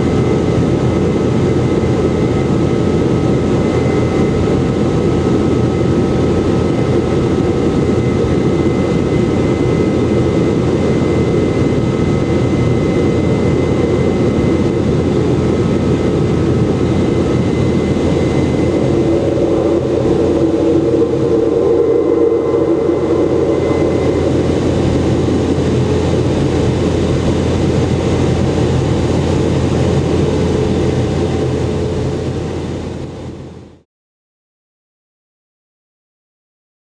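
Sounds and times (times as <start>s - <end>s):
jet engine rumble in cabin: 0.0s - 33.8s.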